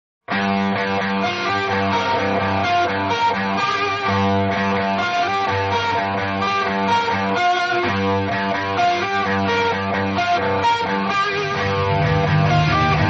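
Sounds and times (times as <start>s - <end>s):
electric guitar and bass music: 0.2s - 13.0s.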